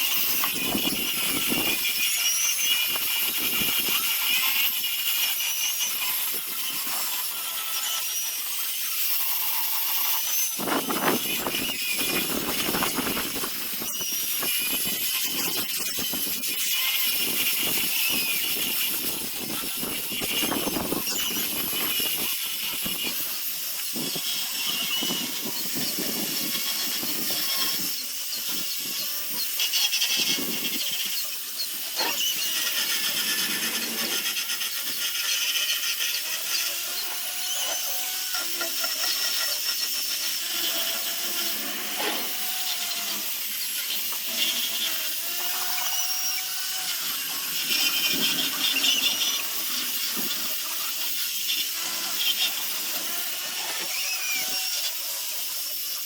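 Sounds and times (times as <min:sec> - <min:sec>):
power sander grinding wood: 0:00.0 - 0:56.0.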